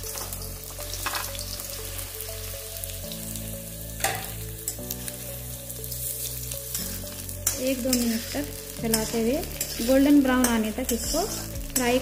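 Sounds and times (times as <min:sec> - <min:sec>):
soft background music: 0:00.0 - 0:12.0
vegetables sizzling in hot oil: 0:00.0 - 0:12.0.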